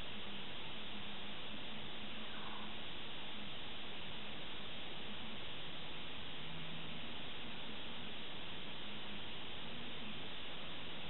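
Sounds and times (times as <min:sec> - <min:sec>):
faint low hum: 0:00.0 - 0:11.0
microphone and room hiss: 0:00.0 - 0:11.0.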